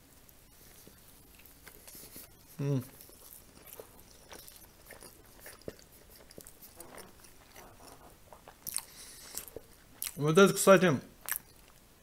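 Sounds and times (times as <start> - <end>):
person chewing with mouth clicks: 0.3 - 10.2, 11.2 - 11.8.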